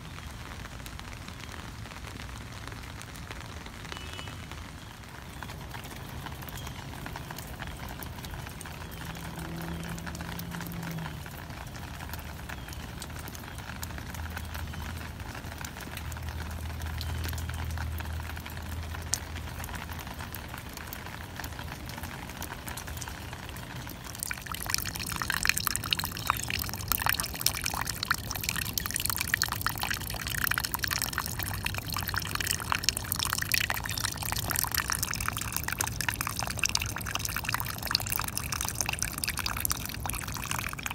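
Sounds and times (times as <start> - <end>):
rain falling: 0.0 - 40.9
raindrops pattering and dripping: 0.0 - 40.9.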